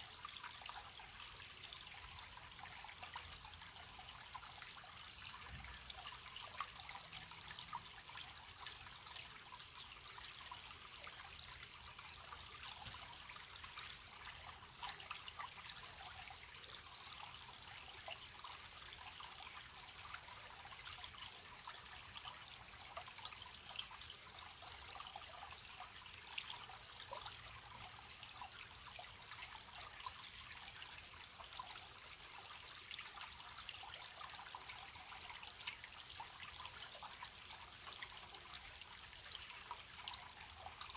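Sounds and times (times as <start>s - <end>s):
crickets chirping: 0.0s - 40.9s
stream babbling over stones: 0.0s - 40.9s.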